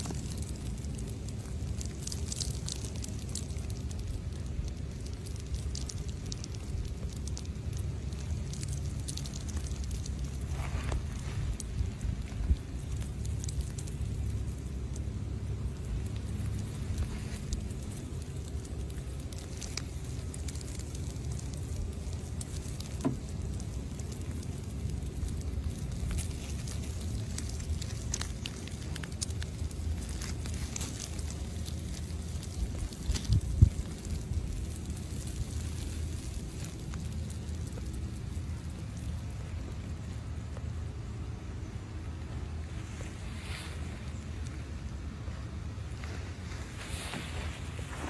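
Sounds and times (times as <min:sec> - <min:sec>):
faint crackles: 0:00.0 - 0:48.0
wind rumble: 0:00.0 - 0:48.0.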